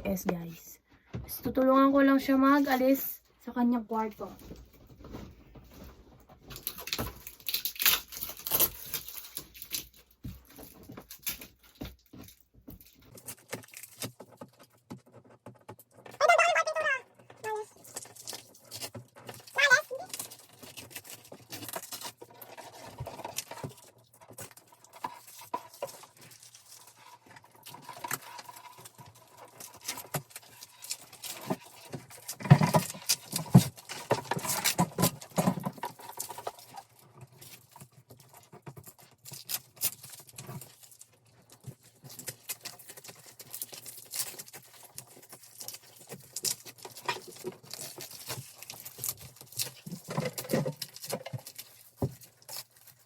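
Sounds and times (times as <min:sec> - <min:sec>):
christmas lights rustling and clicking: 0:02.4 - 0:53.0.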